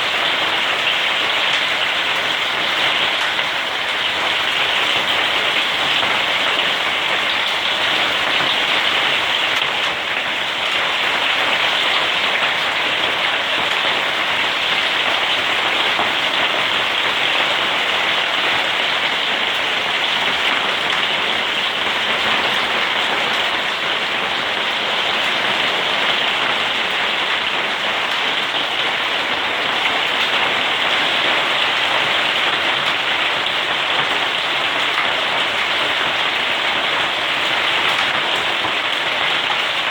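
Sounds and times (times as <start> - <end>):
hailstones falling: 0.0 - 39.9.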